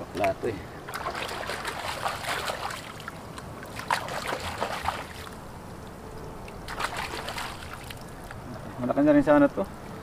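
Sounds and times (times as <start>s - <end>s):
water splashing and sloshing: 0.1s - 8.8s.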